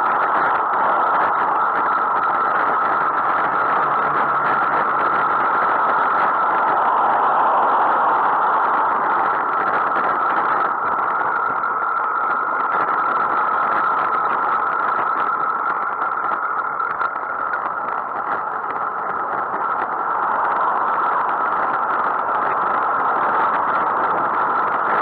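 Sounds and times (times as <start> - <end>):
road and traffic noise: 0.0 - 25.0.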